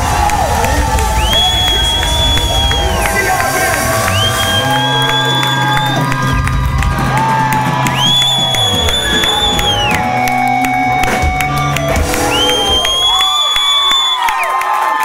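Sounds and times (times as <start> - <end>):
live rock band playing: 0.0 - 13.3
crowd cheering and whooping: 0.0 - 15.0.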